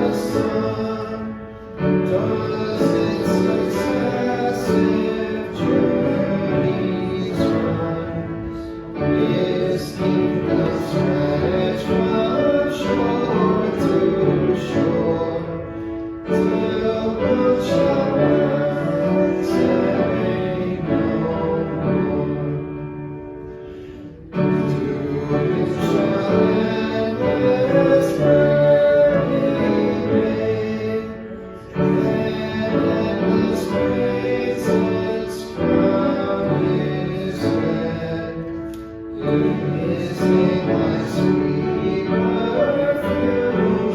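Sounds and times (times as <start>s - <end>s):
hymn singing with instruments: 0.0s - 43.9s.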